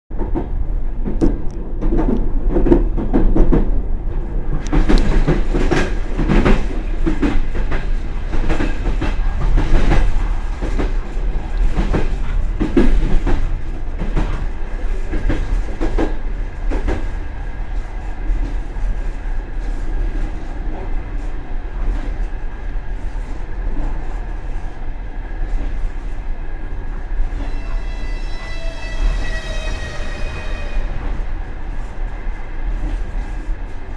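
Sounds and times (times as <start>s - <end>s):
train running rumble: 0.1s - 33.9s.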